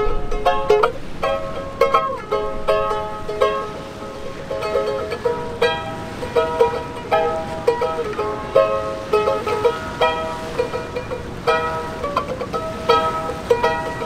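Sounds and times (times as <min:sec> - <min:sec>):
ukulele strumming chords: 0:00.0 - 0:14.0.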